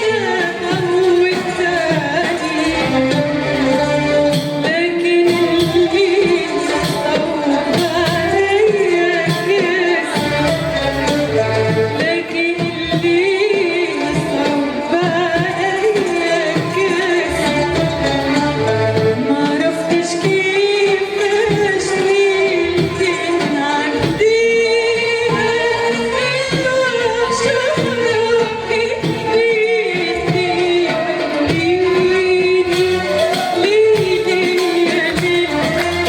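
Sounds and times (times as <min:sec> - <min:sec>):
music ensemble playing: 0:00.0 - 0:36.0
woman singing: 0:00.0 - 0:36.0.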